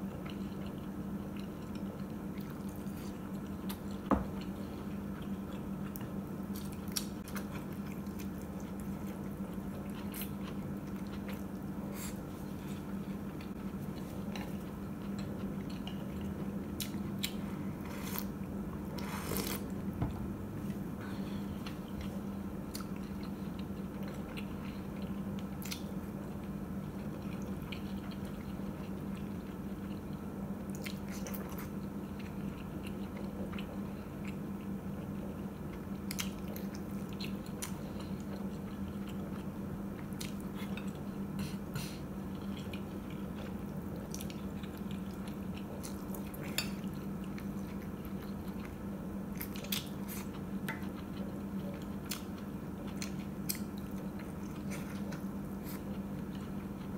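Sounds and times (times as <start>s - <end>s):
steady low hum: 0.0s - 56.9s
chewing and biting food: 0.1s - 19.8s, 21.6s - 56.9s.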